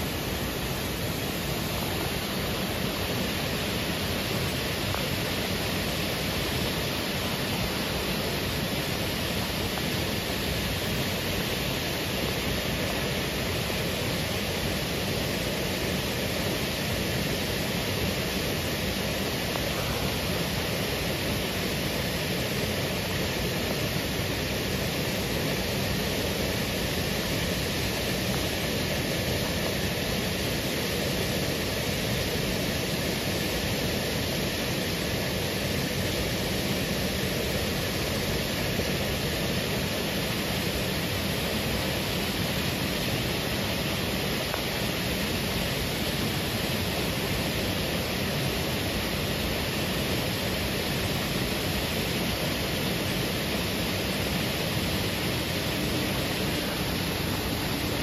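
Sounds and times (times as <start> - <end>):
water rushing over dam: 0.0 - 58.0.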